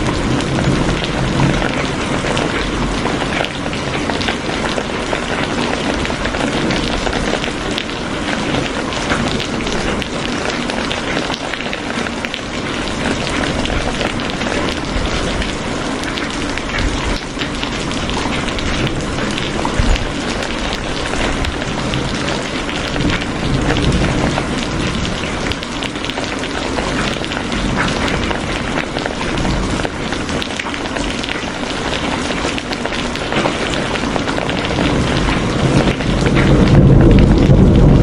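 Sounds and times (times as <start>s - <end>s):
rain drops ticking on a surface: 0.0s - 38.0s.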